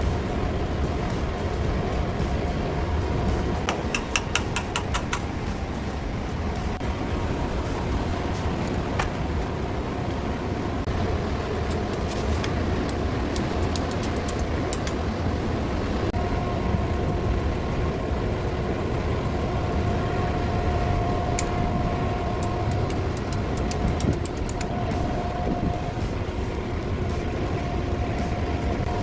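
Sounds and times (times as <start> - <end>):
exhaust fan droning: 0.0 - 29.0
steady whine: 0.0 - 29.0.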